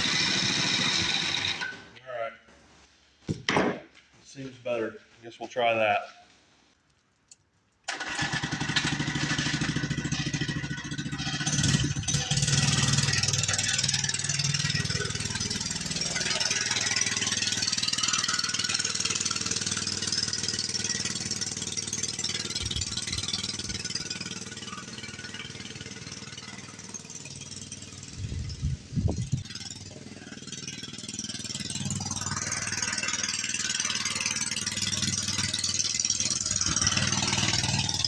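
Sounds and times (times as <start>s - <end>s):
mini bike engine running: 0.0s - 1.8s, 7.9s - 38.0s.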